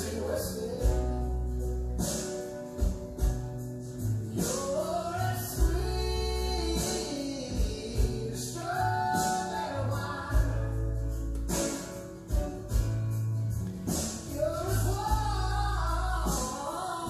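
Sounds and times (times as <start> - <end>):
song with sung melody: 0.0 - 17.0.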